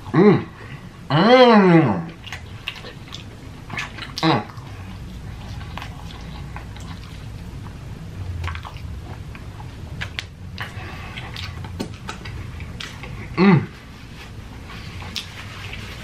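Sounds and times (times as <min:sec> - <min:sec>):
mouth smacks and squelches: 0:02.1 - 0:07.8, 0:08.4 - 0:16.0
wet chewing: 0:02.1 - 0:13.4, 0:14.3 - 0:16.0.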